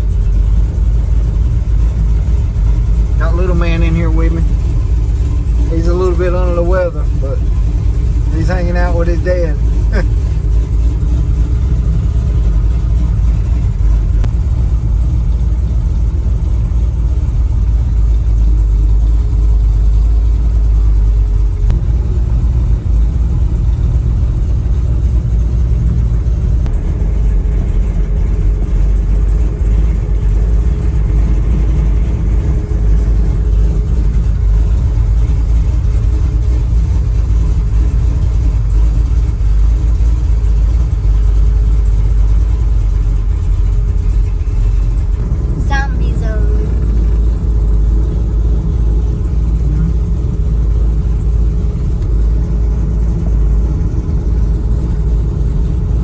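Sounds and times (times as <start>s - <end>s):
car engine low rumble: 0.0s - 56.0s.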